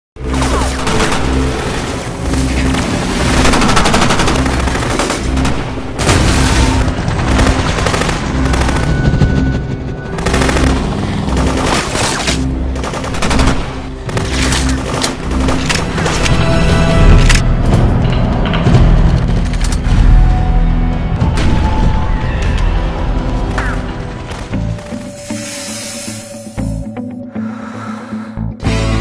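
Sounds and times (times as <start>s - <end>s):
pulsing low music: 0.2s - 29.0s.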